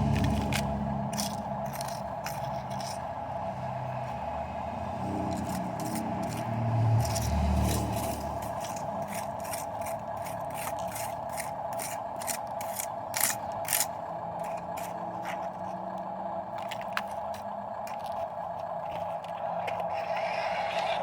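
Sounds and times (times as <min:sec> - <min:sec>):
scrapes and rattles: 0:00.0 - 0:03.1, 0:05.3 - 0:15.9, 0:16.5 - 0:21.0
truck engine rumble: 0:00.0 - 0:21.0.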